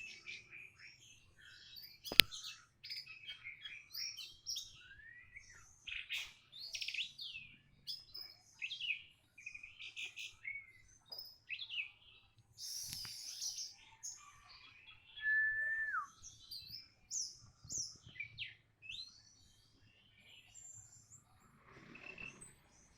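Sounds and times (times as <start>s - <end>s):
songbird singing: 0.0s - 22.9s.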